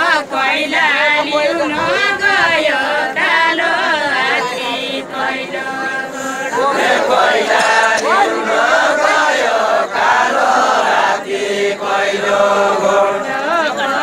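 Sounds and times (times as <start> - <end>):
group singing unaccompanied: 0.0 - 14.0.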